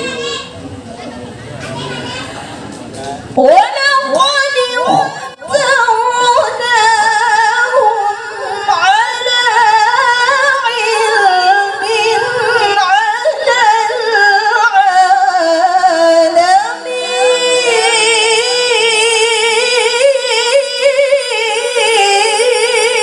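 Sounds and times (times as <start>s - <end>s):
woman chanting melodically: 3.4s - 23.0s.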